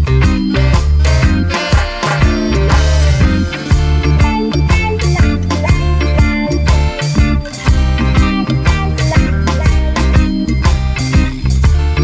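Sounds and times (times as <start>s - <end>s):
reggae-funk music with bass and guitar: 0.0s - 12.0s.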